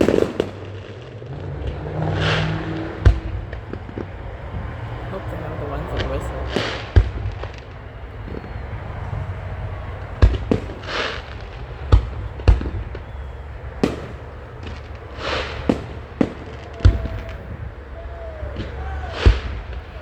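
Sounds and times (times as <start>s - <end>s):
firework shells bursting: 0.0s - 20.0s
fireworks hissing crackle: 0.0s - 20.0s.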